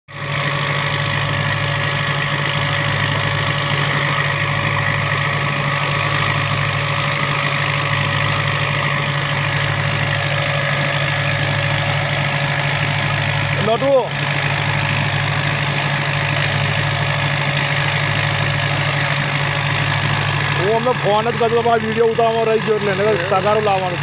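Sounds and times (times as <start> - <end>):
low pump hum: 0.1 - 24.0.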